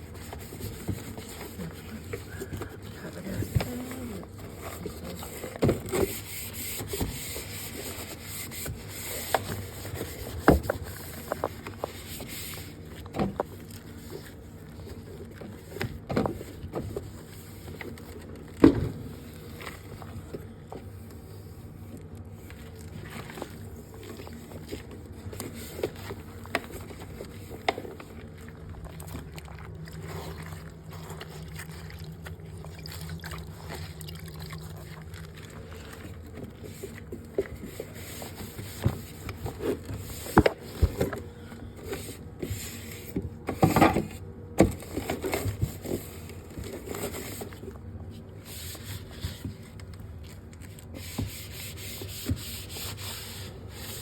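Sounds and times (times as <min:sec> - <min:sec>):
scraping and wiping: 0:00.0 - 0:18.4, 0:19.1 - 0:34.0, 0:34.7 - 0:41.1, 0:44.9 - 0:54.0.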